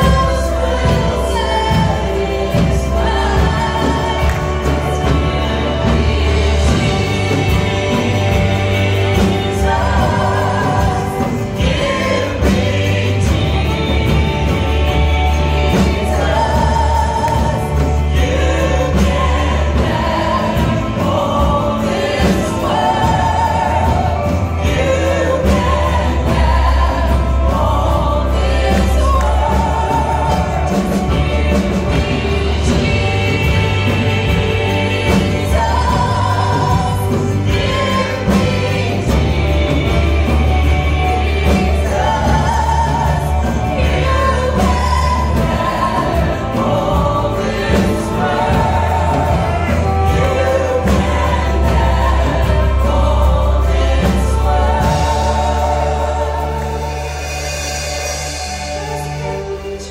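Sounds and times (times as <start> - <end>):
group singing gospel worship song: 0.0 - 59.9
live band with bass line: 0.0 - 59.9.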